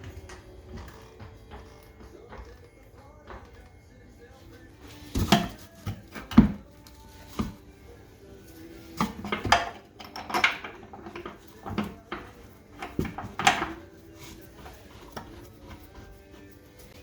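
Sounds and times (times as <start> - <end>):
metal tools clanking: 0.0 - 17.0.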